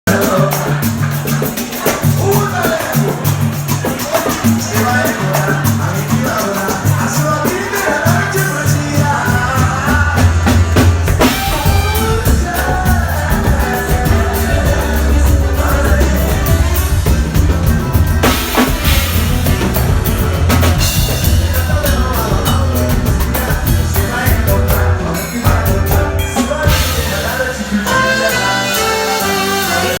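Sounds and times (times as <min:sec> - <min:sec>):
drum kit: 0:00.1 - 0:30.0
person singing: 0:00.1 - 0:30.0
heavy bass line: 0:04.6 - 0:30.0.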